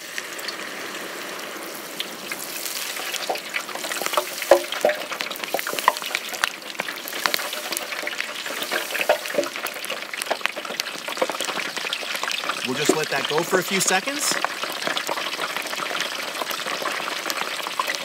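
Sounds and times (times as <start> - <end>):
fries sizzling in deep fryer oil: 0.0 - 18.0.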